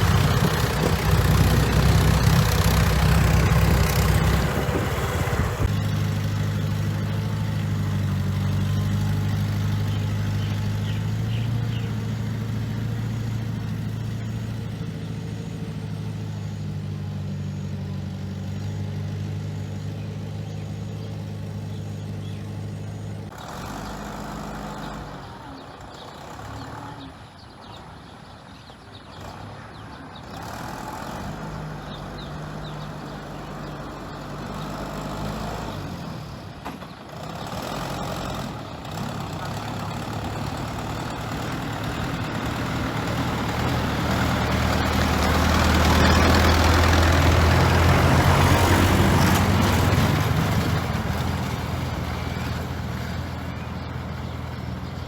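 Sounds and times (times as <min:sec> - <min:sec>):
bulldozer diesel engine running: 0:00.0 - 0:27.3, 0:29.0 - 0:55.0.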